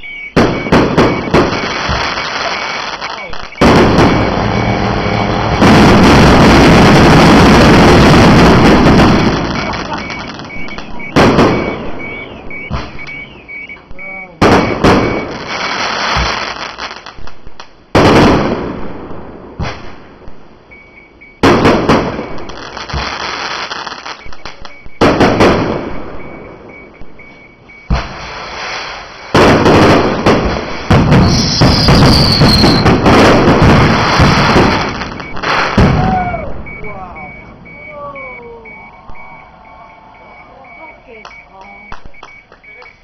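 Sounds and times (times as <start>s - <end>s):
fireworks bangs and crackling: 0.2s - 20.6s, 21.2s - 43.0s.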